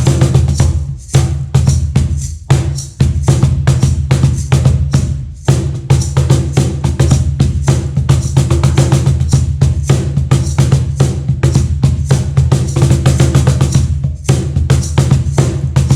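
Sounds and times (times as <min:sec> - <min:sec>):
cajon bass and slap strokes: 0:00.0 - 0:15.9.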